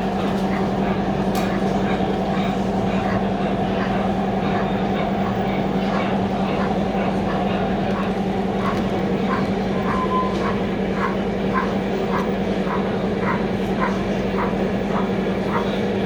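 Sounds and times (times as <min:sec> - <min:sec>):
busy hall noise: 0:00.0 - 0:16.0.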